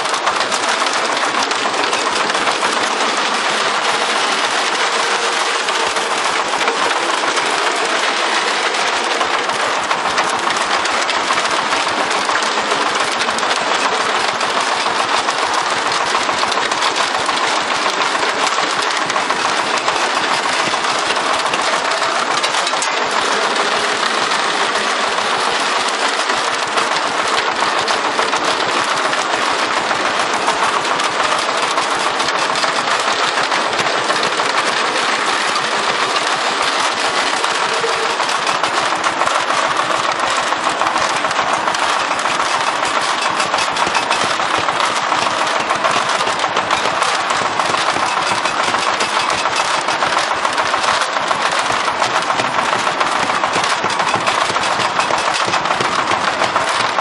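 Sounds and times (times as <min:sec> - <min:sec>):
concrete mixer drum rattling: 0:00.0 - 0:57.0.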